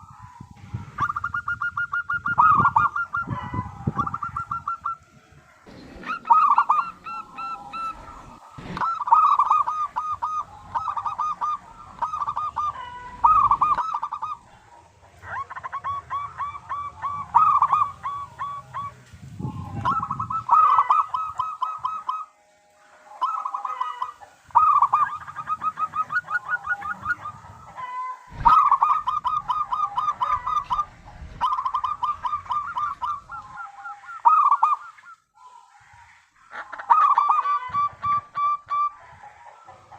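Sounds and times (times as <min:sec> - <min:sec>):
dove cooing: 0:00.0 - 0:22.4, 0:23.0 - 0:39.9.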